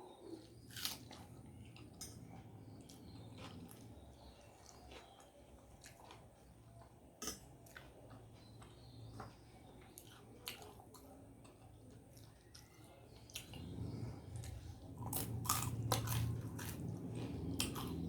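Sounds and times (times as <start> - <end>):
person chewing food: 0.3 - 18.0.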